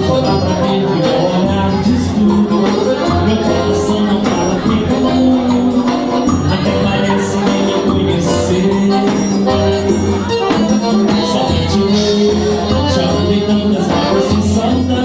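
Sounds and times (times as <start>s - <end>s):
bass line: 0.0s - 15.0s
live dance band music: 0.0s - 15.0s
shaken percussion: 0.0s - 15.0s.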